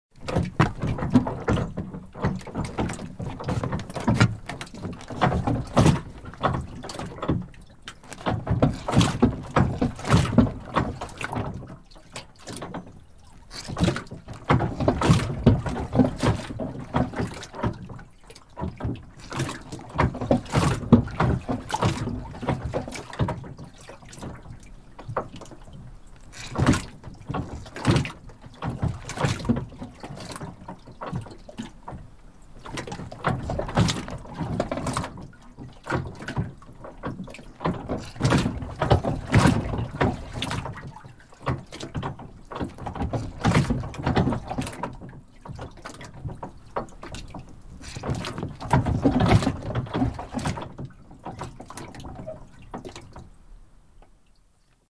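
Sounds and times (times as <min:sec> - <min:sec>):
water sloshing: 0:00.1 - 0:54.8
dock creaking and knocking: 0:00.2 - 0:53.2.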